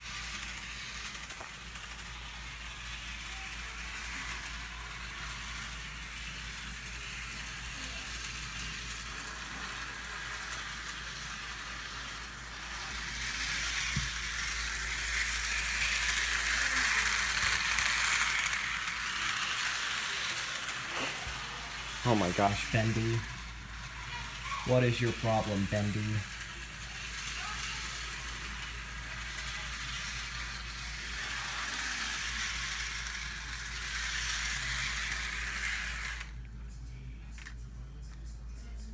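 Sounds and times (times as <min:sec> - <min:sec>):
model train whirring on rails: 0:00.0 - 0:36.5.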